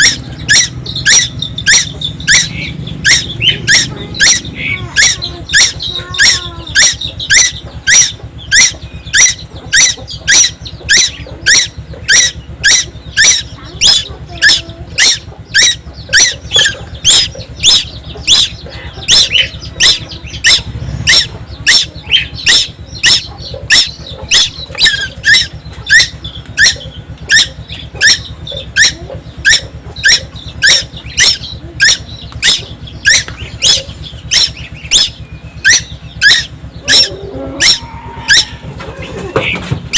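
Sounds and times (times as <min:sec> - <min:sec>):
bird calling: 0:00.0 - 0:39.9.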